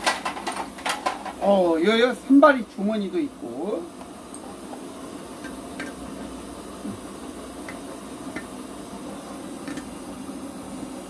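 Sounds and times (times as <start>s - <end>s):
pressure stove hissing: 0.0s - 11.0s.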